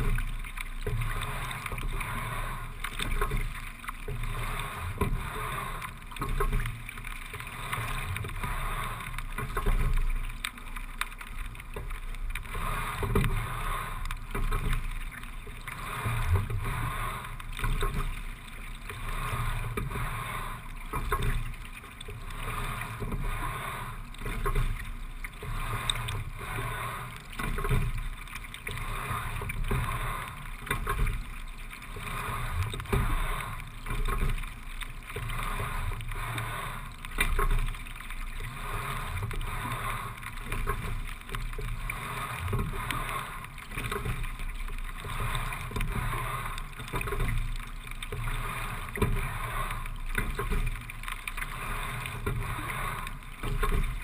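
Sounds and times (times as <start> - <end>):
water running along boat hull: 0.0 - 54.0.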